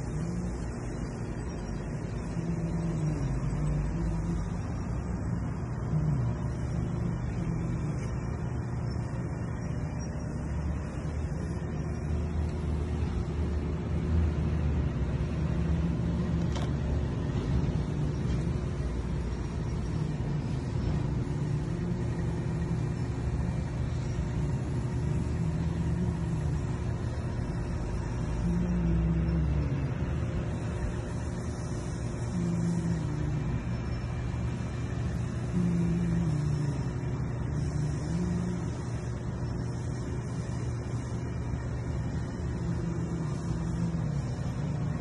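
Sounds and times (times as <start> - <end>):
faint steady hum: 0.0 - 45.0
low background rumble: 0.0 - 45.0.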